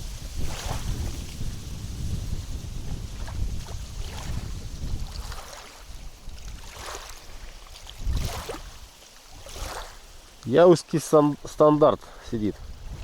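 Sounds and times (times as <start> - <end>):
wind buffeting microphone: 0.0 - 10.7, 11.3 - 13.0
water splashing: 0.0 - 13.0.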